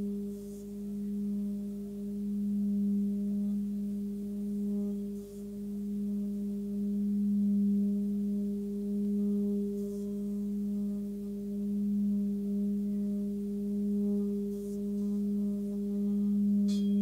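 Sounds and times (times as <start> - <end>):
singing bowl humming: 0.0 - 17.0.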